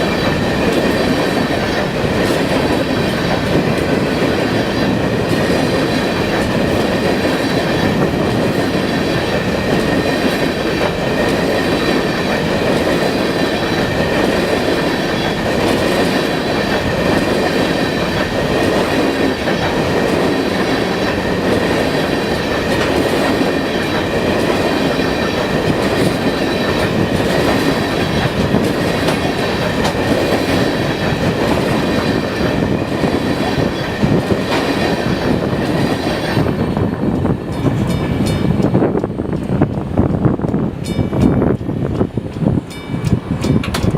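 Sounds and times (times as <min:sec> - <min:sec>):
train wheels clattering on rails: 0:00.0 - 0:43.9.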